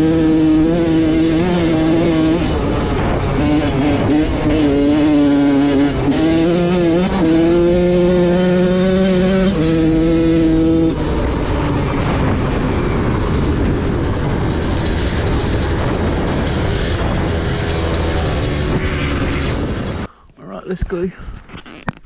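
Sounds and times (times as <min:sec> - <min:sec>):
dirt bike engine revving: 0:00.0 - 0:20.6.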